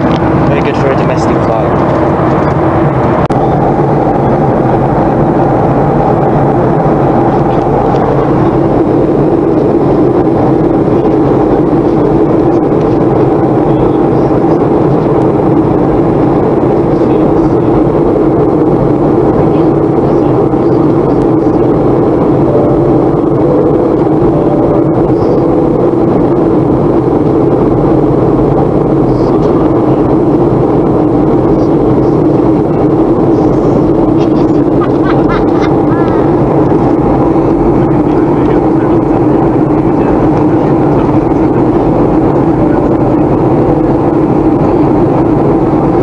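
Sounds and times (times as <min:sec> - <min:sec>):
jet engine drone: 0:00.0 - 0:46.0
rushing airflow: 0:00.0 - 0:46.0.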